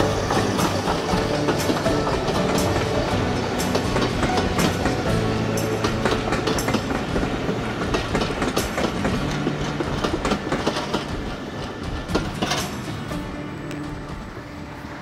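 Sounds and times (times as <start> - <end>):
train wheels clattering over joints: 0.0 - 15.0.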